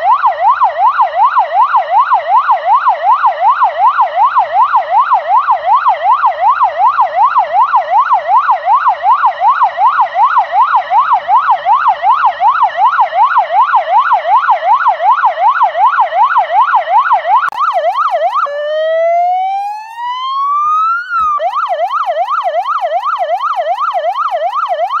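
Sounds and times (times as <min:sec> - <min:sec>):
police siren yelp and wail: 0:00.0 - 0:25.0.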